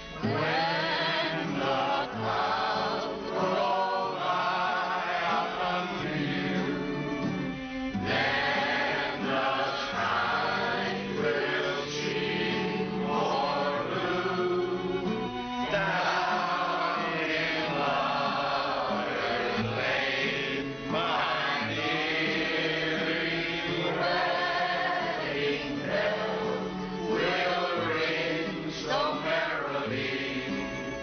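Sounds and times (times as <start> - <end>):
voices singing in chorus: 0.0 - 31.0.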